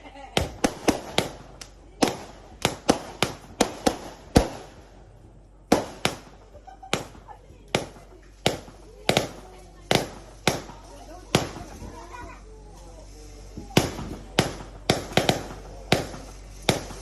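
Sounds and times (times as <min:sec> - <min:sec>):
firework bangs: 0:00.0 - 0:12.4, 0:13.3 - 0:17.0.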